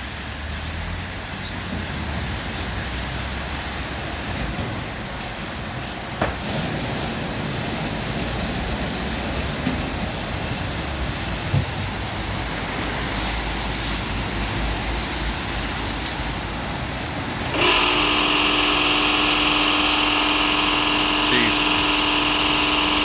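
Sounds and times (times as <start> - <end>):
car wash water spray and brushes: 0.0 - 23.0.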